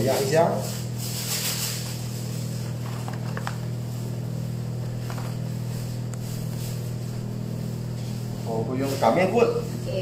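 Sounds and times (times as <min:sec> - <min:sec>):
baking sheet rustling: 0:00.0 - 0:10.0
low machine hum: 0:00.0 - 0:10.0.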